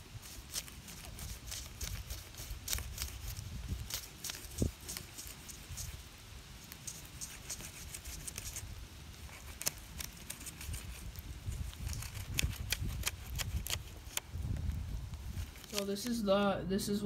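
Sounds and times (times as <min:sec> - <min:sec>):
small clicks and crackles: 0:00.2 - 0:06.0, 0:06.6 - 0:16.2.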